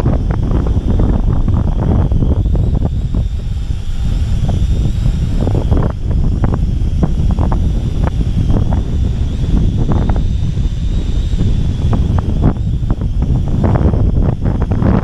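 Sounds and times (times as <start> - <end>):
drone propeller whine: 0.0 - 15.0
wind buffeting microphone: 0.0 - 15.0.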